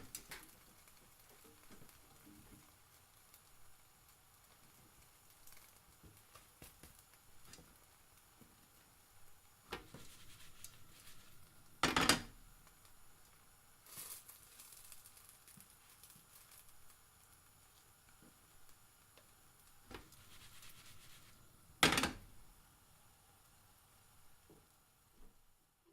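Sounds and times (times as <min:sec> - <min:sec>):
pancake frying in a pan: 0:00.0 - 0:25.9.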